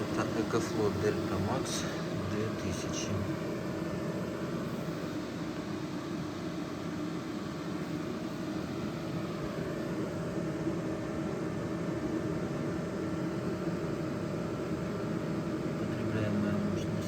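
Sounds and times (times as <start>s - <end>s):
cooling fans running: 0.0s - 17.0s
electric kettle heating: 0.0s - 17.0s
faint whining tones: 0.0s - 17.0s.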